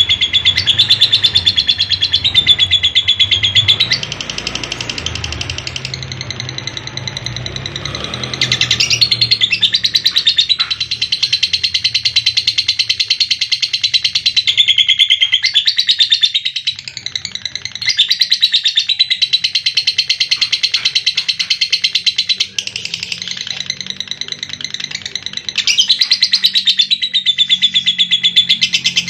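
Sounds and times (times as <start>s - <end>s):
lovebird chattering trill: 0.0s - 29.0s.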